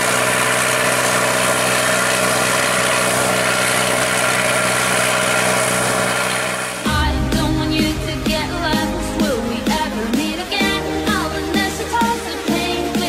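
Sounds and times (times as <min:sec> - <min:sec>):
combine harvester engine hum: 0:00.0 - 0:11.9
machinery hissing: 0:00.0 - 0:12.3.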